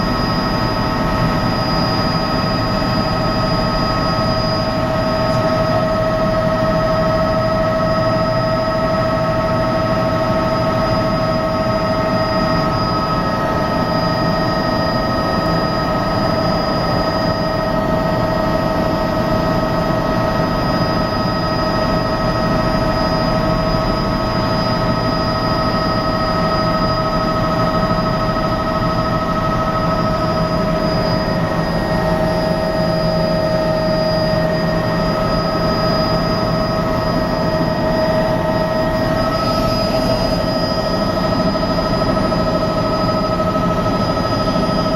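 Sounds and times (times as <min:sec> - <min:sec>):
helicopter engine and rotor drone: 0:00.0 - 0:44.9
steady whining tones: 0:00.0 - 0:44.9.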